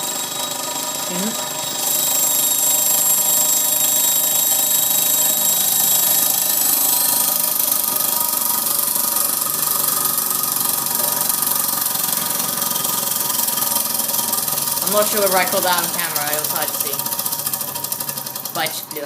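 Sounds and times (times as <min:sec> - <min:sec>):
model steam engine whine: 0:00.0 - 0:19.0.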